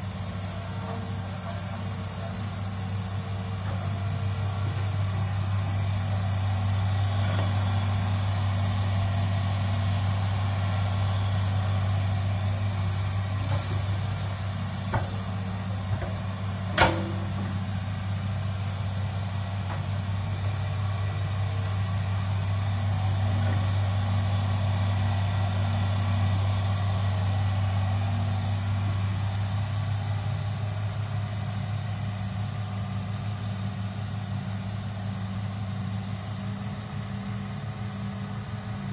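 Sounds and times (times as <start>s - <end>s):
diesel excavator engine humming: 0.0s - 38.9s.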